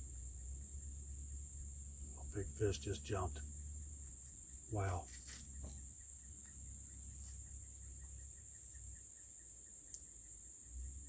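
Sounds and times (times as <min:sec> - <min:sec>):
chorus of insects: 0:00.0 - 0:11.0.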